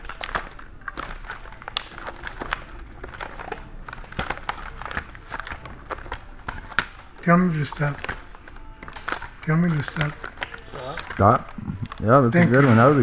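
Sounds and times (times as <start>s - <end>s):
pages flipping with clicks: 0.0s - 13.0s.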